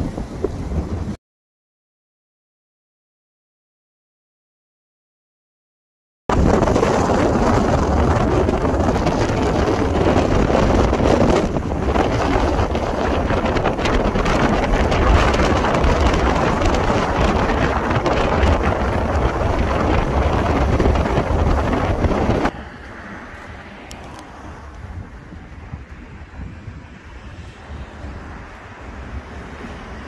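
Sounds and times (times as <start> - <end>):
strong wind on microphone: 0.0 - 1.2, 6.3 - 30.0.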